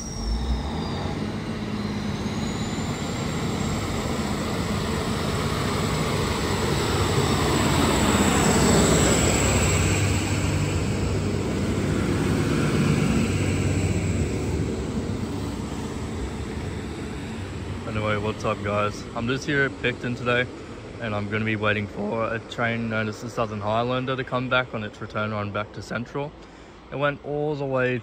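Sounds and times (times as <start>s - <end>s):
diesel railcar passing: 0.0s - 28.0s.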